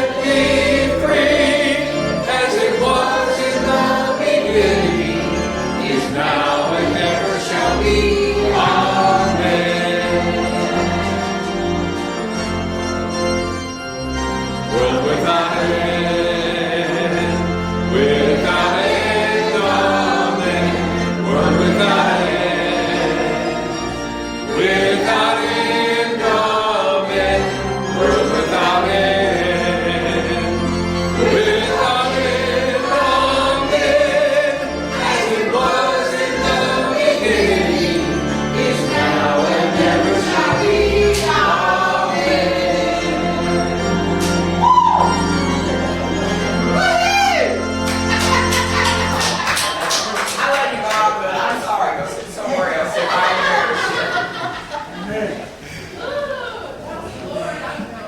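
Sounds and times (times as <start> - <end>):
organ accompaniment: 0.0 - 51.5
congregation singing a hymn: 0.0 - 55.8.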